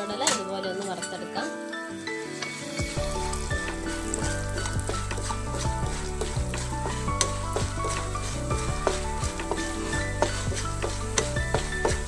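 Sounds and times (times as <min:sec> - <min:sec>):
chickpeas sizzling in hot oil: 0:00.0 - 0:12.0
clicks of grains being stirred: 0:00.0 - 0:12.0.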